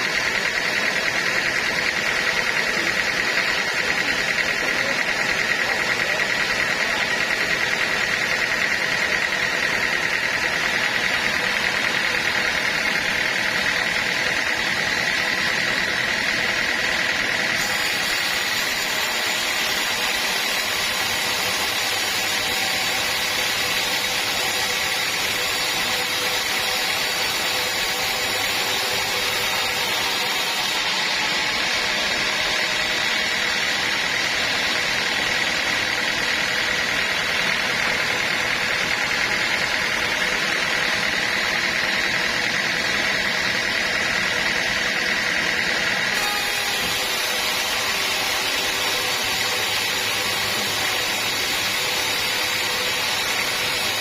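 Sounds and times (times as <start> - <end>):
sawmill machinery drone and whine: 0.0 - 54.0.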